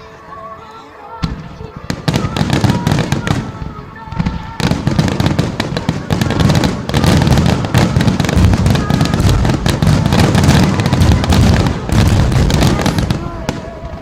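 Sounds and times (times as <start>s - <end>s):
fireworks bursting: 1.1s - 14.0s.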